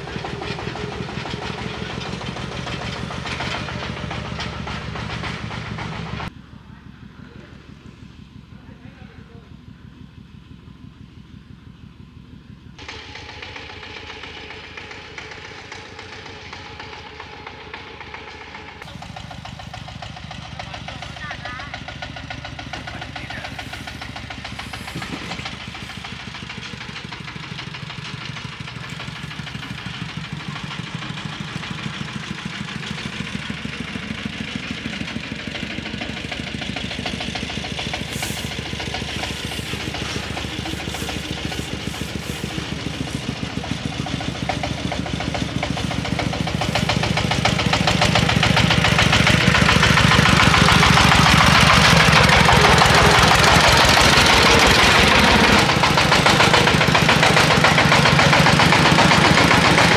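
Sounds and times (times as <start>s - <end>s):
diesel engine knocking: 0.0s - 59.9s.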